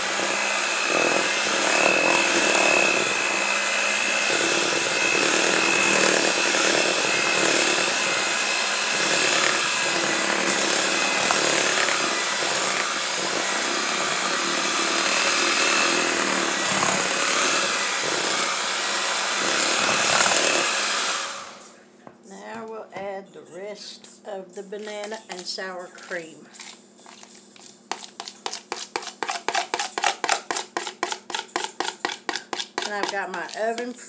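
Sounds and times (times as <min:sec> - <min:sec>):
electric hand mixer whining: 0:00.0 - 0:21.7, 0:26.0 - 0:34.0.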